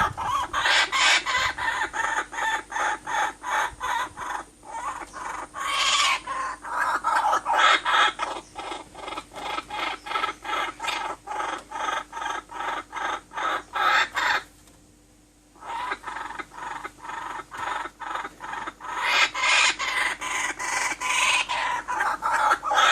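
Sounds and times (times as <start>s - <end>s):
chicken clucking: 0.0s - 14.5s, 15.6s - 22.9s.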